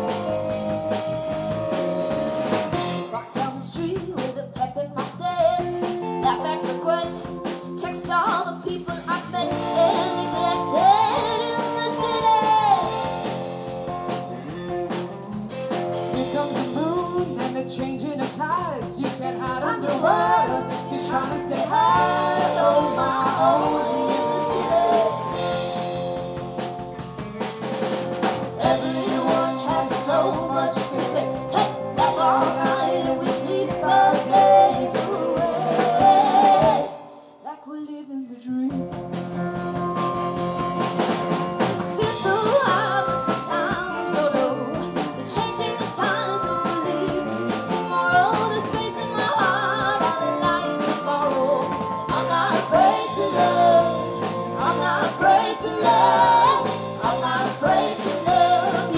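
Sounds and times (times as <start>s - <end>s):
live pop-folk band playing: 0.0s - 37.3s, 38.7s - 58.9s.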